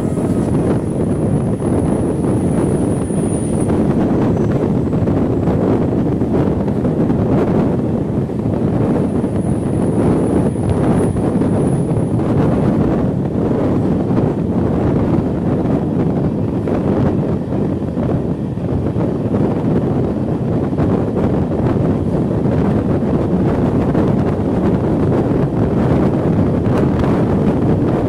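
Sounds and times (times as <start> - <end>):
train running on track: 0.0 - 28.0
wind buffeting microphone: 0.0 - 28.0.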